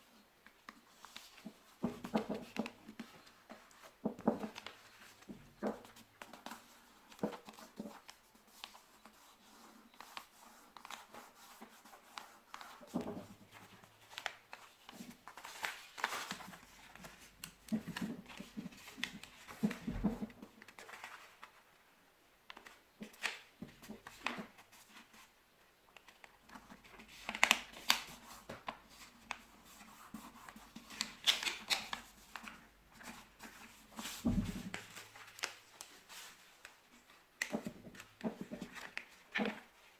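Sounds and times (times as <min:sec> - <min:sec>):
paper rustling and crinkling: 0:00.6 - 0:21.8, 0:26.0 - 0:39.9.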